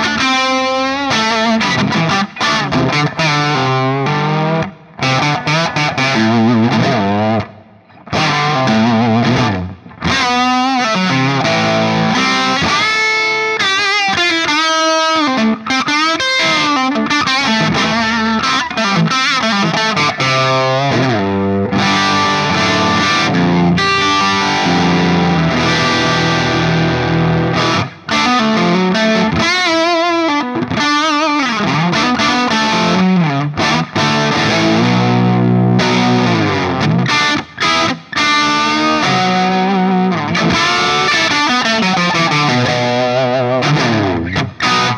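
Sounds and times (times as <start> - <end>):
overdriven electric guitar riffs: 0.0 - 44.9.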